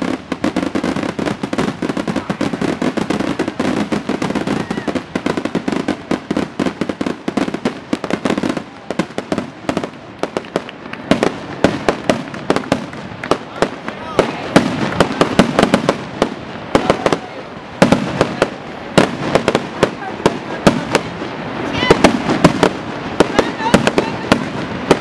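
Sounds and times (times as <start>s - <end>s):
fireworks bursting and crackling: 0.0s - 25.0s
loud fireworks bangs: 0.0s - 25.0s.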